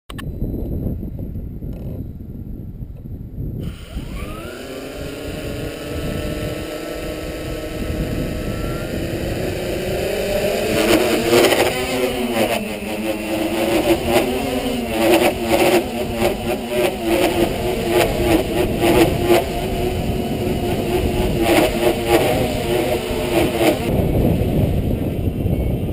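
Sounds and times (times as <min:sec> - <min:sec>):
drone motors whining: 0:03.6 - 0:25.9.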